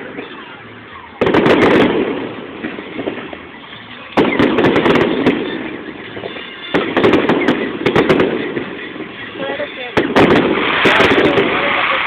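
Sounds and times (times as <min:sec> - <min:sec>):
fireworks bursting: 0:00.0 - 0:12.0
fireworks crackling: 0:00.0 - 0:12.0.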